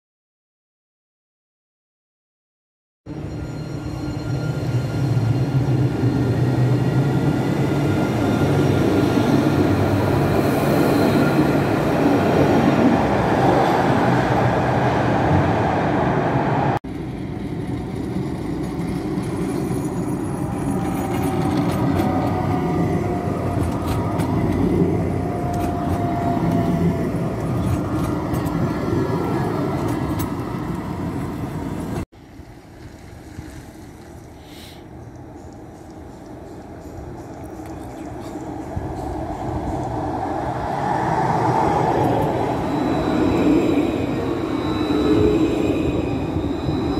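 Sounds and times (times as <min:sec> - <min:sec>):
tram motor whine: 0:03.1 - 0:32.7, 0:38.4 - 0:46.9
tram wheels rumbling on rails: 0:03.1 - 0:46.9.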